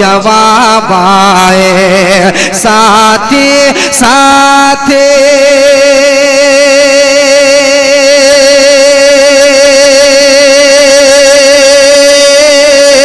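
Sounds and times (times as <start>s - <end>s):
man singing long note: 0.0s - 13.0s.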